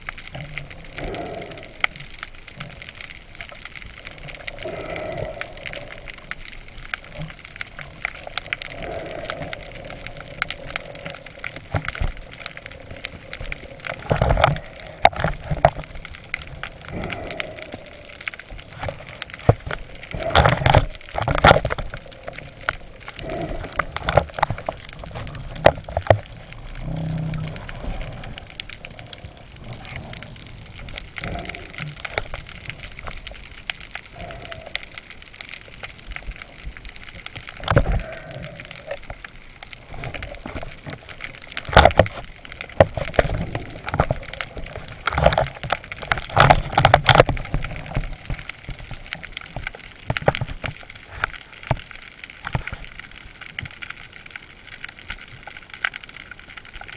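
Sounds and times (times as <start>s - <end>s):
underwater crackle of clicks: 0.0s - 56.9s.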